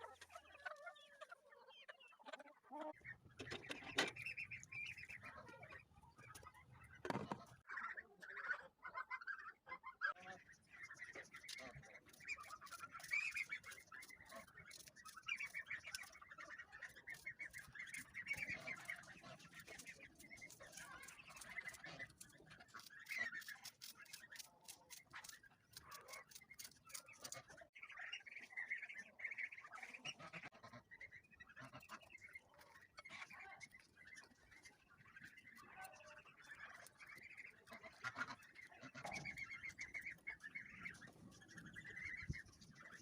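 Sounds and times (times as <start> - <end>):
fowl chirping and squawking: 0.0 - 43.0.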